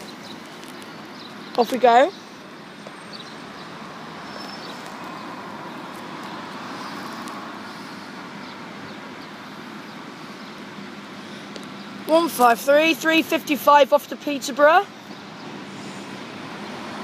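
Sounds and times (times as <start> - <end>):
distant diesel railcar engine rumble: 0.0 - 17.0.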